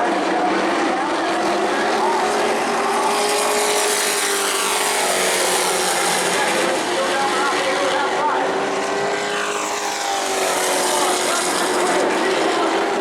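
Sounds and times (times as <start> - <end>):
race truck engines revving: 0.0 - 13.0.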